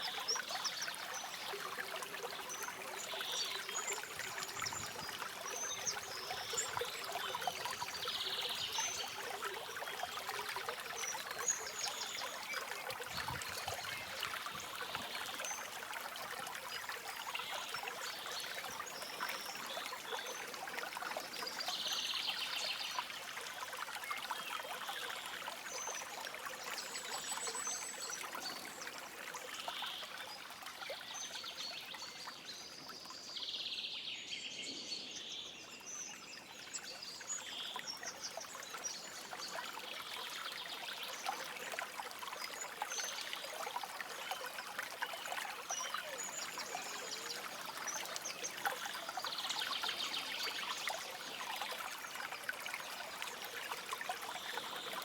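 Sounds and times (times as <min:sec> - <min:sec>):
stream flowing over stones: 0:00.0 - 0:33.9, 0:35.6 - 0:55.0.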